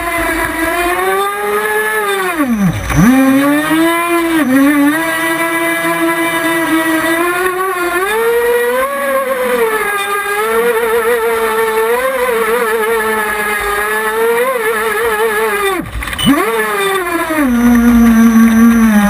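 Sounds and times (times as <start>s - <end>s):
motorboat engine running: 0.0s - 19.0s.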